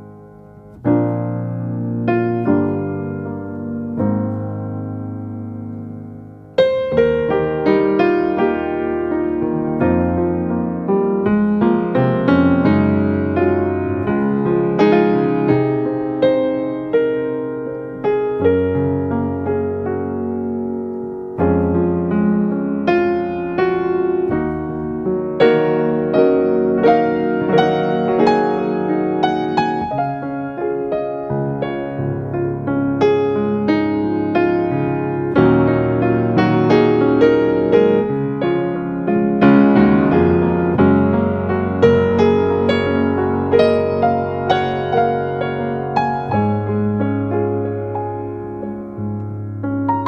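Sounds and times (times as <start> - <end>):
gentle piano music: 0.0 - 50.0.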